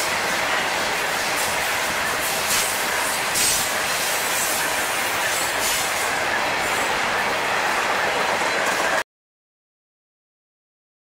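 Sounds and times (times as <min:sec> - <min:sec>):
train wheels rolling on rails: 0:00.0 - 0:09.0.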